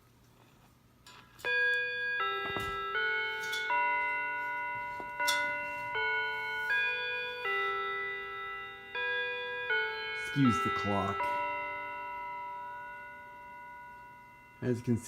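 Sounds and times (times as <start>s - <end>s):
chiming clock melody: 1.0s - 15.0s.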